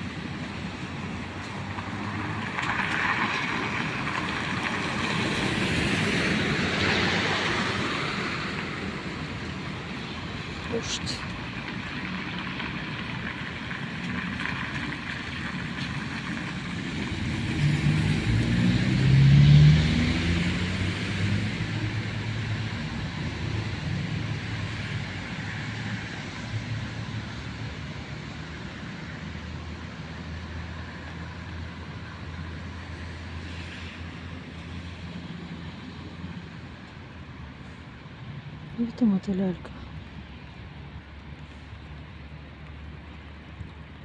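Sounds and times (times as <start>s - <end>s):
car passing by: 0.0s - 38.3s
rain on a street: 0.0s - 44.0s.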